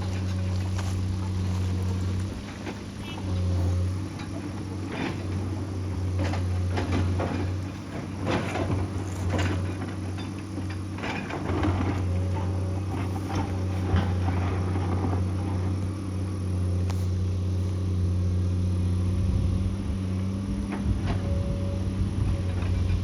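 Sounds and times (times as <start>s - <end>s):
rock and metal clanking and scraping: 0.0s - 16.1s, 20.6s - 23.0s
excavator diesel engine running: 0.0s - 23.0s.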